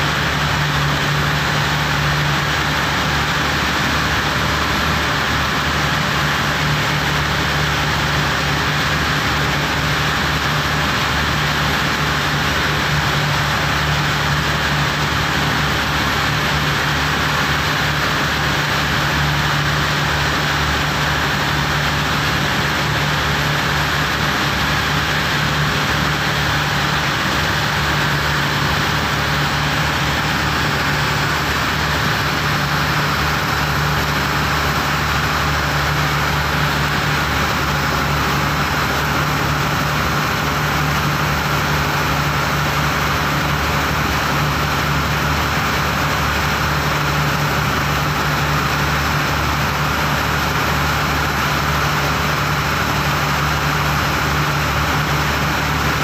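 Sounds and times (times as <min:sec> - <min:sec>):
boat engine droning: 0:00.0 - 0:56.0
water rushing from wake: 0:00.0 - 0:56.0.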